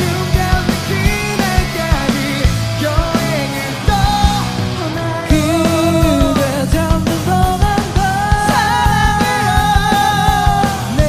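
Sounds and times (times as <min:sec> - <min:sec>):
drums: 0:00.0 - 0:11.0
electric guitar: 0:00.0 - 0:11.0
man singing: 0:00.0 - 0:11.0.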